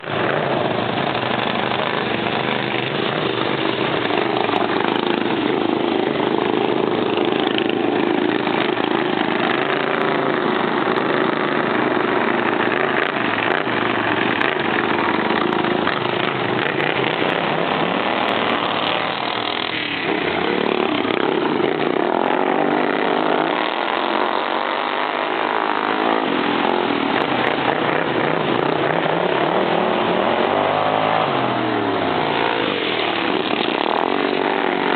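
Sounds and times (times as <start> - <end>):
racing lawn mower engines revving: 0.0 - 34.9.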